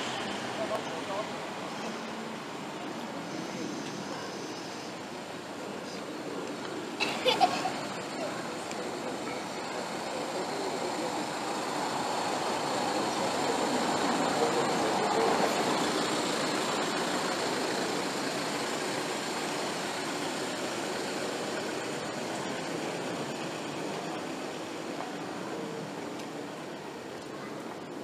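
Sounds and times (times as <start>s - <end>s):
street traffic hum: 0.0s - 28.0s.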